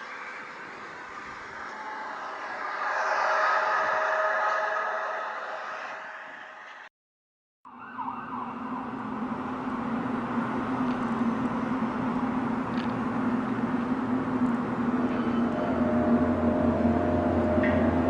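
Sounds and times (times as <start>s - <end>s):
low drone with steady tone: 0.0s - 6.9s, 8.6s - 18.0s.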